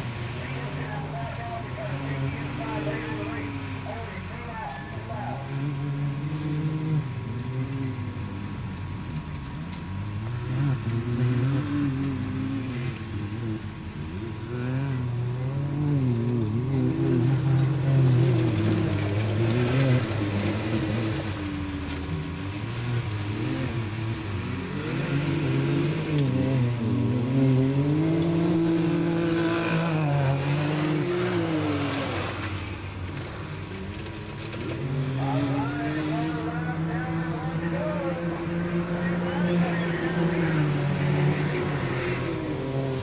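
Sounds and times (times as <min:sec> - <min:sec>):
utility vehicle engines revving: 0:00.0 - 0:43.0.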